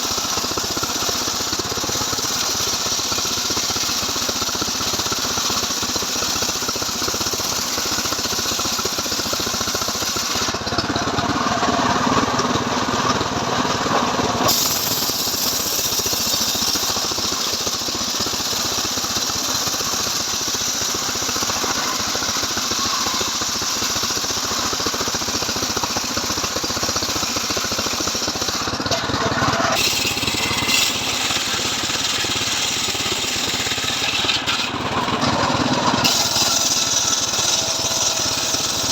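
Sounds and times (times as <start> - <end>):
chainsaw cutting a log: 0.0 - 12.5, 13.1 - 38.9.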